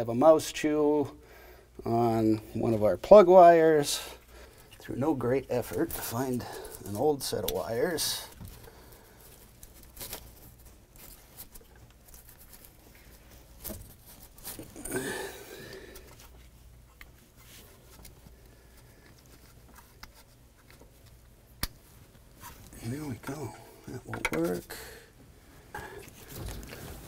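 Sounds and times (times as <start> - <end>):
hands rustling and scraping wires: 2.1 - 24.8, 25.7 - 27.0.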